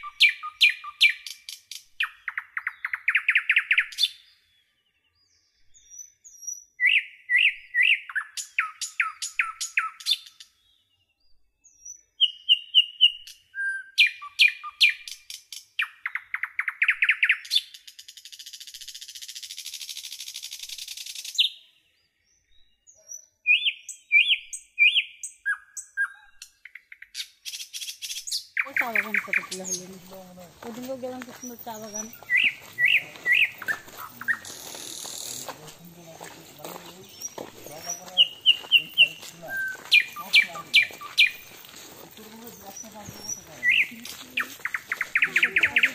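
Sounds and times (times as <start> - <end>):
birds chirping and trilling: 0.0 - 45.9.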